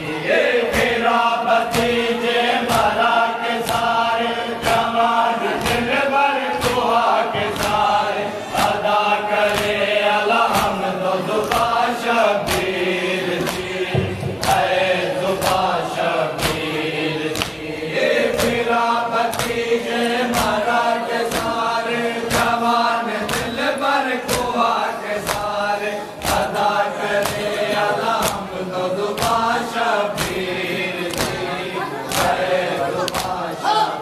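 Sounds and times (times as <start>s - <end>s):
men chanting in unison: 0.0s - 34.0s
hands slapping on chests: 0.7s - 22.6s, 23.2s - 25.6s, 26.2s - 31.5s, 32.1s - 33.6s.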